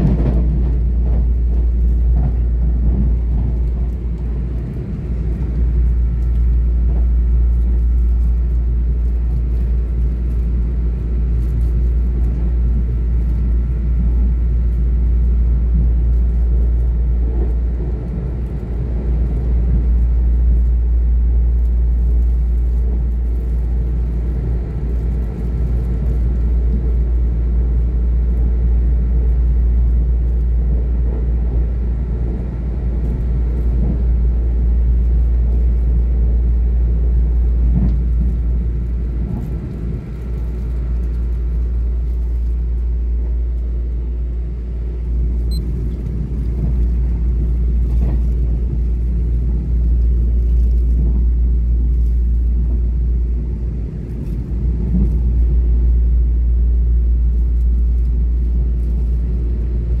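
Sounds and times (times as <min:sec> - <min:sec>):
train wheels rumbling on rails: 0:00.0 - 1:00.0.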